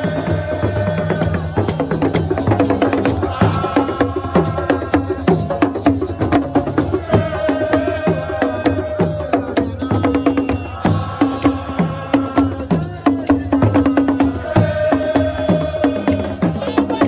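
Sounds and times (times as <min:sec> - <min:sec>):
hand drums playing fast rhythm: 0:00.0 - 0:17.0.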